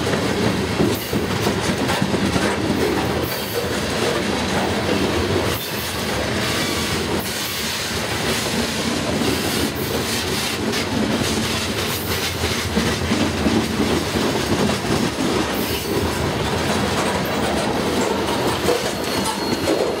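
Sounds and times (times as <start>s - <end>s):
wheels clicking over rail joints: 0.0s - 7.5s, 8.2s - 20.0s
train wheels rumbling on rail: 0.0s - 20.0s.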